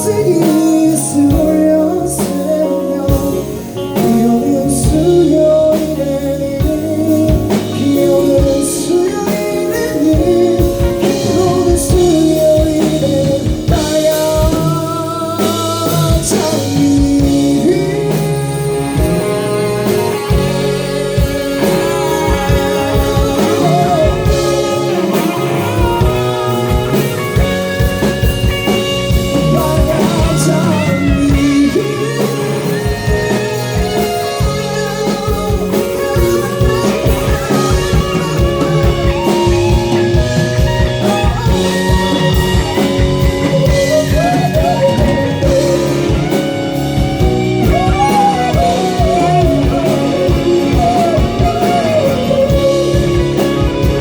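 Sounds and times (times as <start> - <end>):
bass: 0.0 - 54.0
drum kit: 0.0 - 54.0
electric guitar: 0.0 - 54.0.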